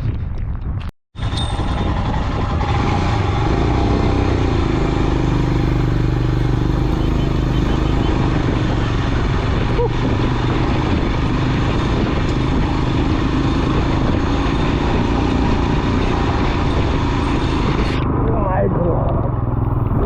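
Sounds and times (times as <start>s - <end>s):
road noise: 0.0s - 20.0s
motorcycle engine running: 1.2s - 20.0s.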